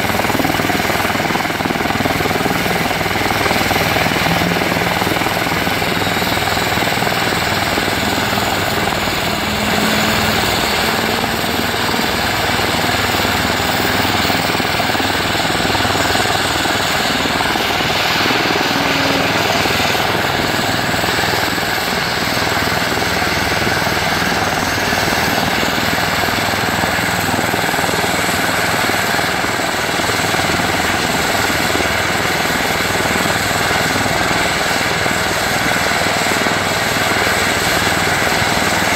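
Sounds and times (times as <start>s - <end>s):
helicopter engines and rotors whining: 0.0s - 38.9s.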